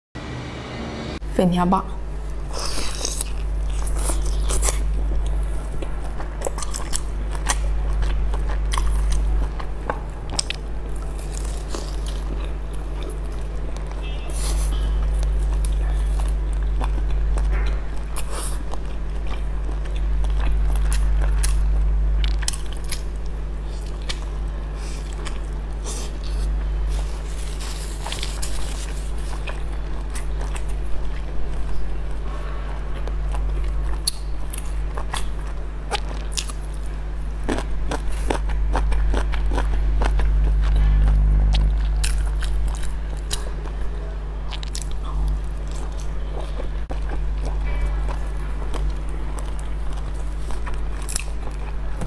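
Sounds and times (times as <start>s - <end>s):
steady low hum: 0.2s - 52.0s
person biting and chewing: 2.5s - 31.3s, 33.0s - 43.8s, 44.4s - 51.9s.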